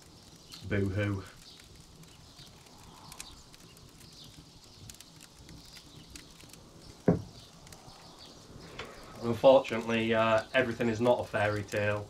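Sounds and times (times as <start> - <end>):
faint crackling clicks: 0.0 - 12.0.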